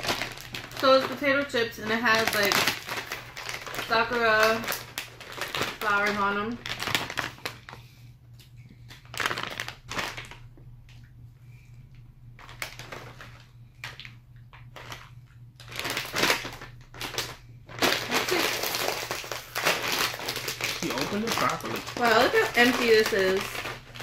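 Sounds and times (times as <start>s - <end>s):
plastic chip bag crinkling: 0.0s - 11.0s, 12.4s - 24.0s.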